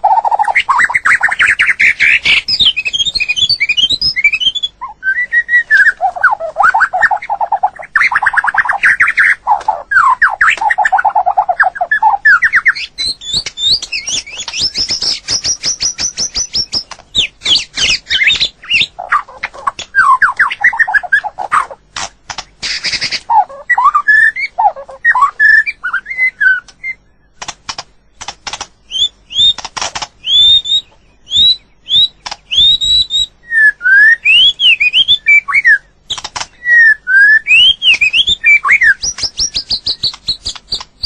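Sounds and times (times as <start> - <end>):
bird singing whistled phrases: 0.0 - 21.7, 22.6 - 27.4, 28.8 - 29.6, 30.2 - 41.0.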